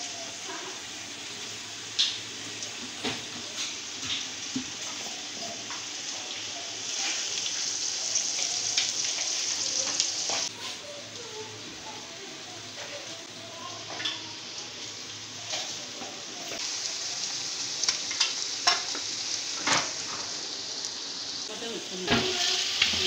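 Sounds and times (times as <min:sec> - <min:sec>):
vegetables frying in oil: 0:00.0 - 0:23.0.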